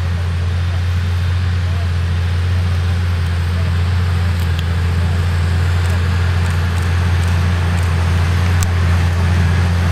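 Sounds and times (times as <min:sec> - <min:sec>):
tractor diesel engine running: 0:00.0 - 0:09.9.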